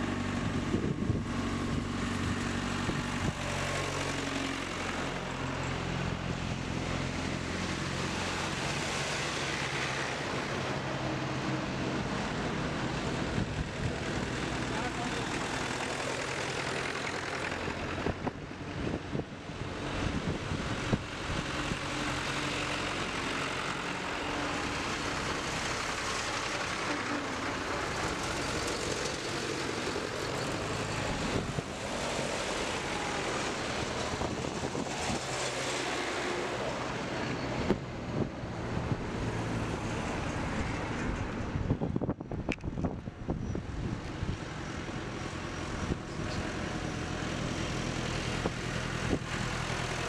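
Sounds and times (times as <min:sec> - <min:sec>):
dense rushing noise: 0:00.0 - 0:50.0
tractor engines running: 0:00.0 - 0:50.0.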